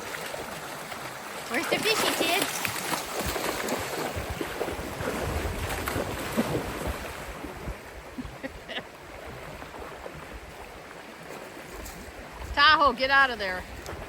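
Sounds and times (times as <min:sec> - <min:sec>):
creek water splashing: 0:00.0 - 0:14.0
wind rumbling on microphone: 0:01.8 - 0:14.0.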